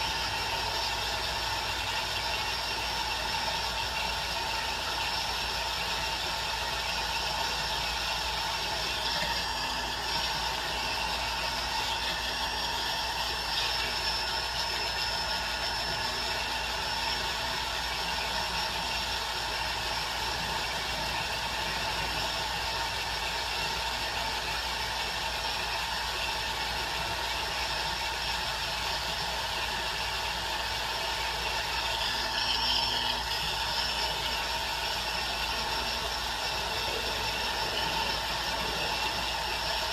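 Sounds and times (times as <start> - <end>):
small rotary tool running: 0.0 - 39.9.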